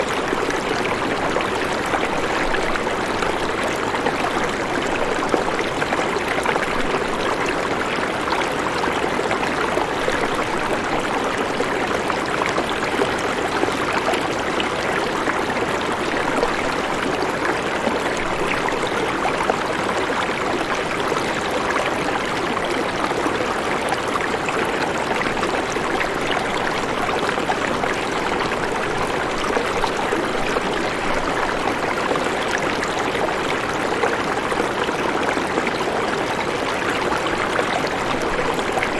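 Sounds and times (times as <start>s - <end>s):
rushing and trickling water: 0.0s - 38.9s.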